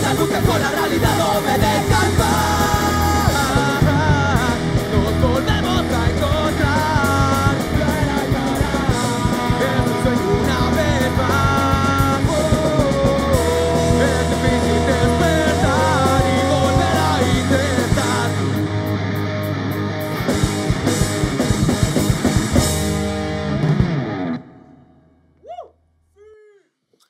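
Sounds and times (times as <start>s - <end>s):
live rock band playing: 0.0s - 25.1s.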